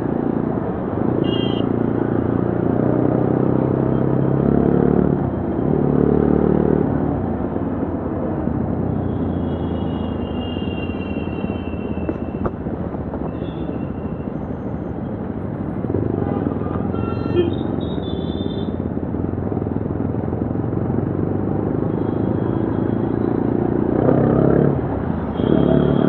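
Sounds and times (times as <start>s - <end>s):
road and wind rumble: 0.0s - 26.0s.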